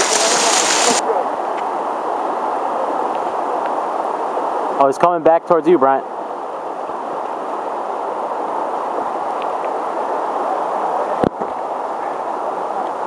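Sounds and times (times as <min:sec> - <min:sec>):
river riffles rushing: 0:00.0 - 0:13.0.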